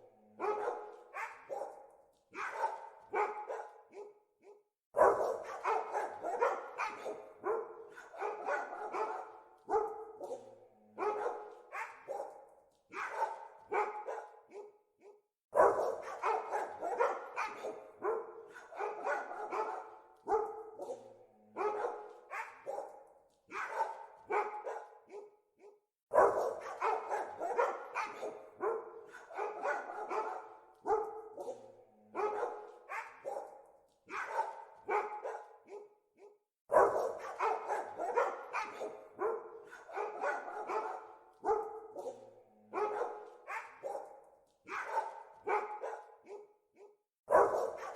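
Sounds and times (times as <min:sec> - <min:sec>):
dogs barking: 0:00.0 - 0:47.9.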